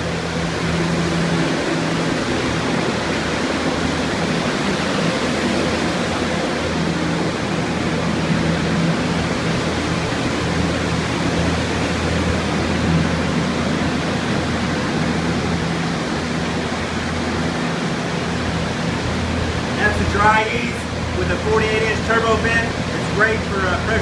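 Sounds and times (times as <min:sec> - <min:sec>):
drying fans rushing air: 0:00.0 - 0:24.0
low machine hum: 0:00.0 - 0:24.0.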